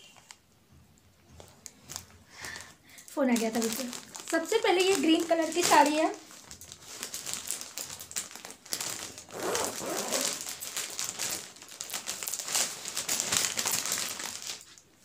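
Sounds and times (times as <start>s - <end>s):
plastic packaging crinkling: 1.4s - 15.0s.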